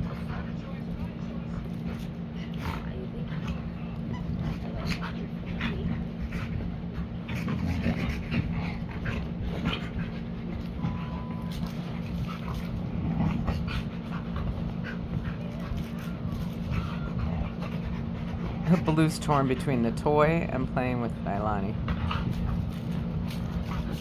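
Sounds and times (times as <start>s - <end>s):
dogs panting and whimpering: 0.0s - 20.5s, 21.4s - 24.0s.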